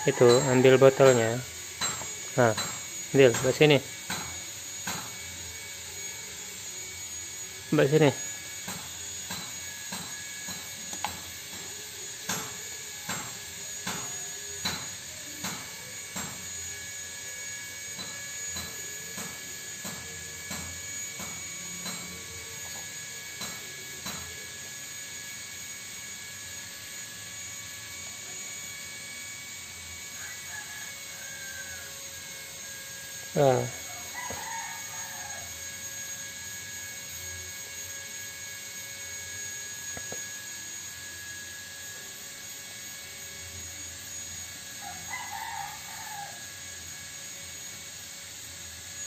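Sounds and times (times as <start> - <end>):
machine hum with high whine: 0.0 - 49.0.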